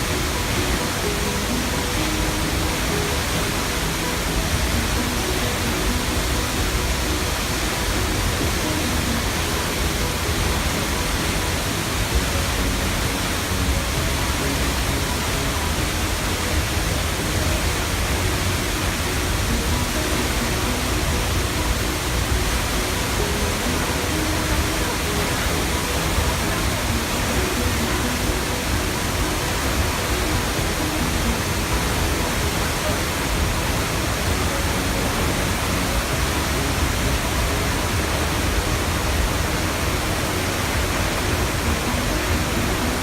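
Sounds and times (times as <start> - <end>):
waterfall crashing down: 0.0 - 43.0.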